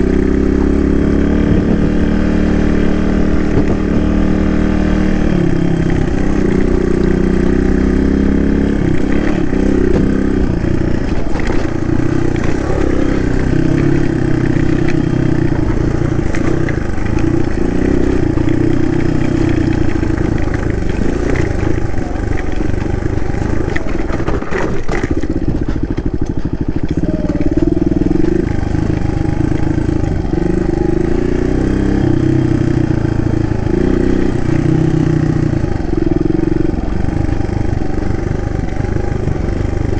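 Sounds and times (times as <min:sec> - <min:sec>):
engine knocks: 0:00.0 - 0:39.9
motorcycle engine running: 0:00.0 - 0:39.9.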